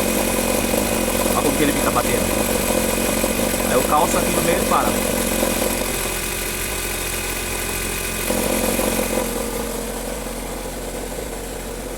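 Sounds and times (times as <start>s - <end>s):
car engine idling: 0.0s - 11.9s
mid-pitched rumble: 0.0s - 11.9s.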